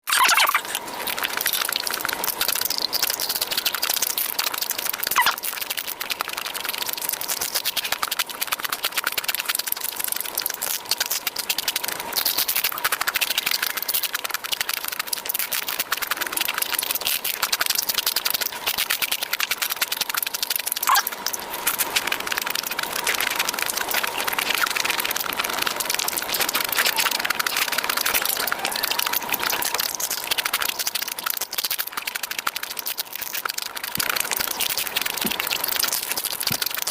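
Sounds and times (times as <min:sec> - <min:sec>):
chewing and crunching: 0:00.1 - 0:36.9.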